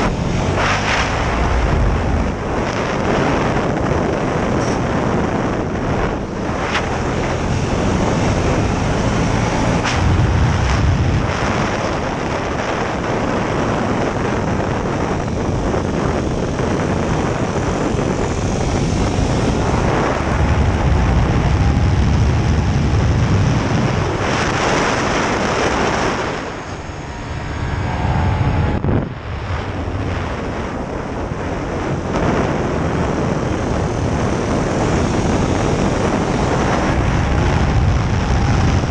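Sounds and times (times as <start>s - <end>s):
motorcycle engine running hard: 0.0s - 38.9s
wind rush on microphone: 0.0s - 38.9s.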